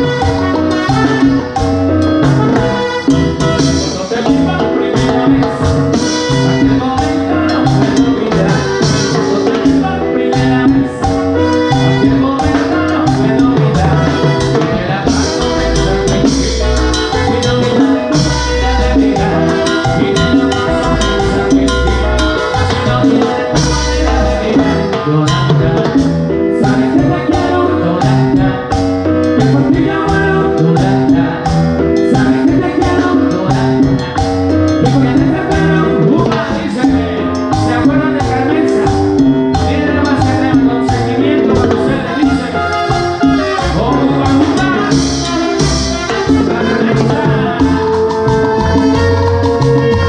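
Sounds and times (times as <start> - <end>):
latin dance band music: 0.0 - 50.0.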